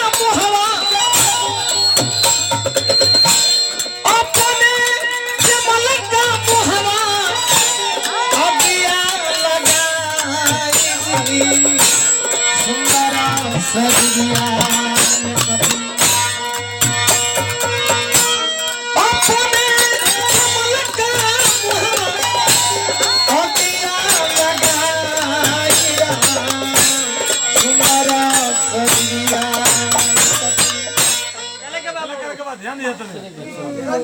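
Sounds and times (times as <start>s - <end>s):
fast steady percussion: 0.0s - 32.5s.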